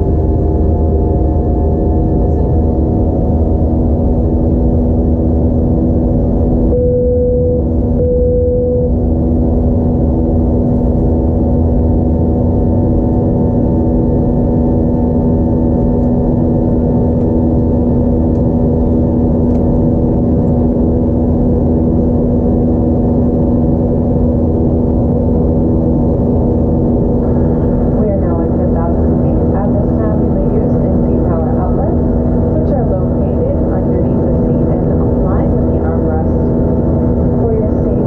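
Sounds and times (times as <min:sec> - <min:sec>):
jet engine drone in cabin: 0:00.0 - 0:38.0.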